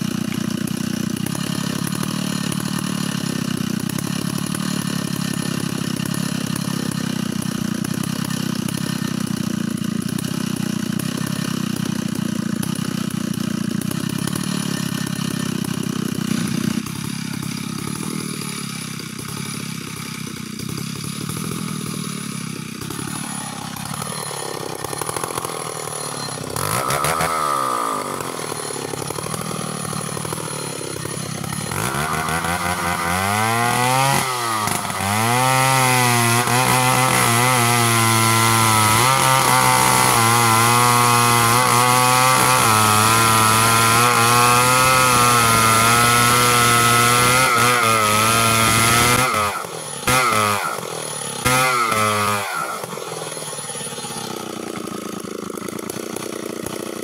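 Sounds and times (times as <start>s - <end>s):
chainsaw revving and cutting: 0.0s - 57.0s.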